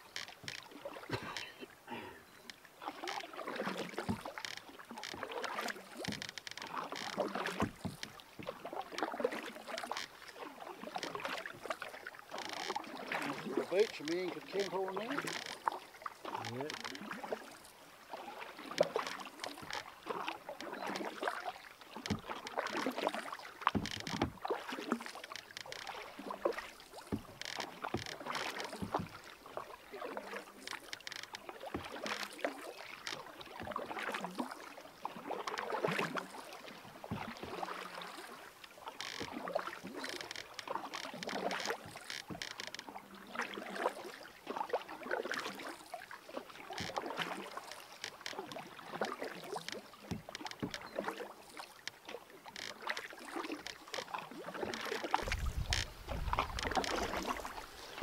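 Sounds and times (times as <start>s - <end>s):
water slapping canoe hull: 0.0s - 58.0s.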